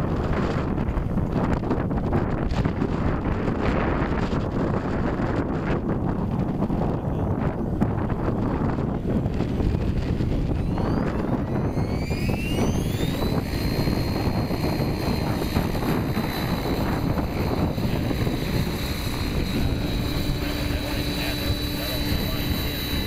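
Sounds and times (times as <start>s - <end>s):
rc helicopter motor whine: 0.0s - 23.0s
wind rumble on microphone: 0.0s - 23.0s.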